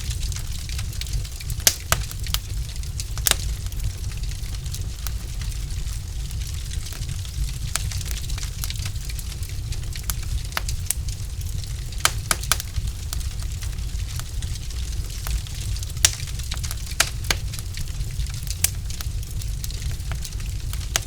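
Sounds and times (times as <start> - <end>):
fire flames rumbling: 0.0 - 21.0
logs crackling and popping: 0.0 - 21.0.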